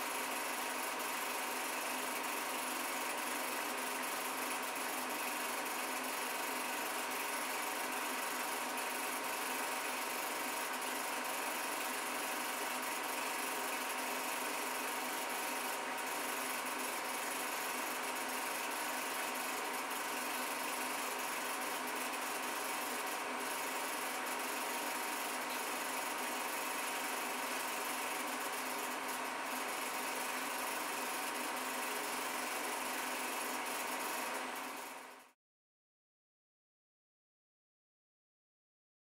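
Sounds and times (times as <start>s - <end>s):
film projector rattling and whirring: 0.0s - 35.4s.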